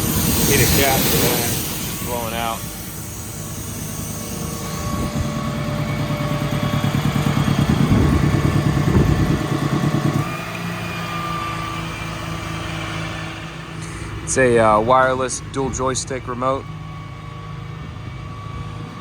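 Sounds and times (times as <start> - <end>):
diesel truck engine revving: 0.0 - 19.0.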